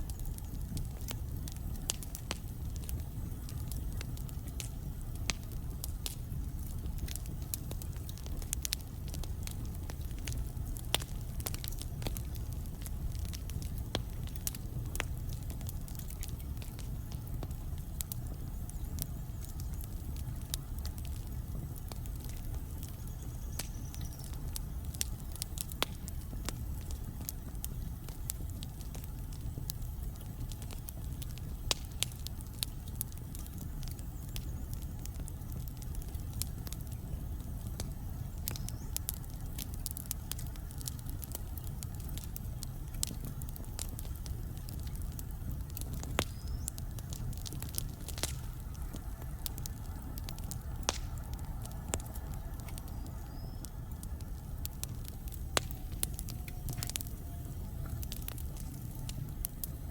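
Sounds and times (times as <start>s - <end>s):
fire crackling and popping: 0.0s - 59.9s.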